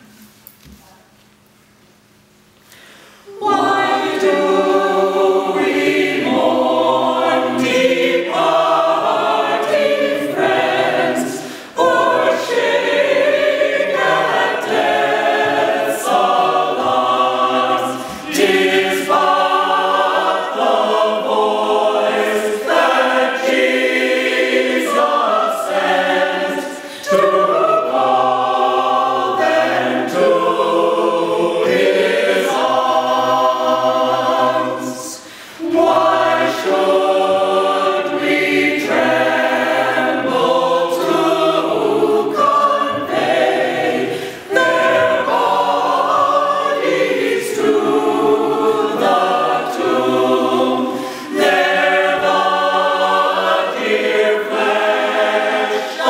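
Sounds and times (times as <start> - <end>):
mixed choir singing a hymn: 3.3 - 56.0.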